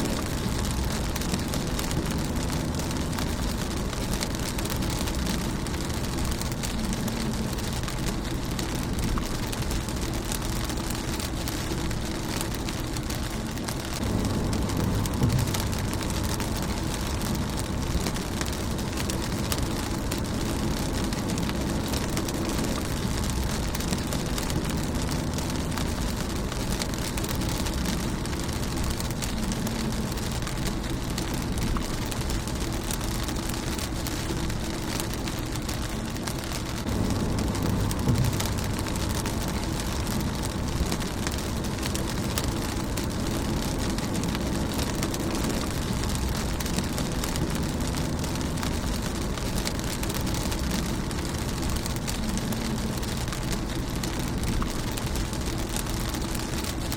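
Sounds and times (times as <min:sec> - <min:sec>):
low rumble: 0:00.0 - 0:56.9
rain on windscreen: 0:00.0 - 0:56.9.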